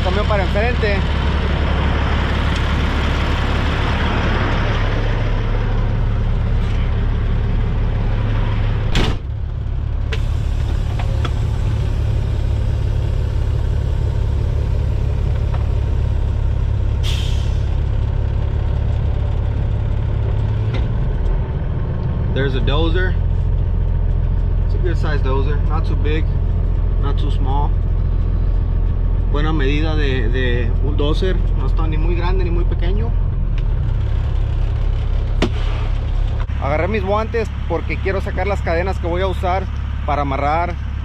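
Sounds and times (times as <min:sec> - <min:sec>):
truck diesel engine running: 0:00.0 - 0:41.0.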